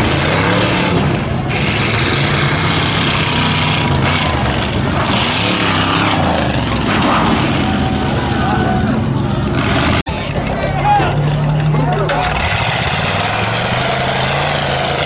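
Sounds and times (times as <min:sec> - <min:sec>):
truck engine revving hard: 0:00.0 - 0:10.5, 0:11.1 - 0:15.0.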